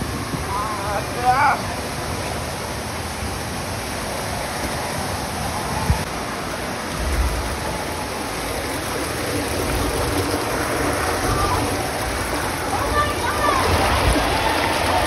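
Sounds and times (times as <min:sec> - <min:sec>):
water rushing down plastic slide: 0:00.0 - 0:15.0.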